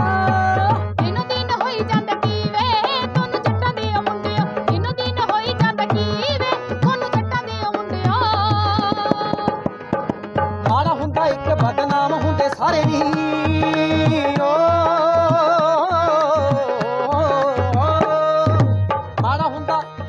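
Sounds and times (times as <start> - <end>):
hand drum rhythm: 0.0 - 20.0
harmonium melody: 0.0 - 20.0.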